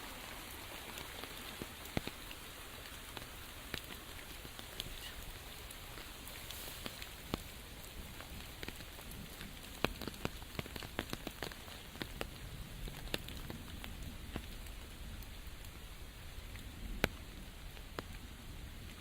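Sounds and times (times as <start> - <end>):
rain hissing in forest: 0.0 - 19.0
raindrops ticking on leaves: 0.0 - 19.0.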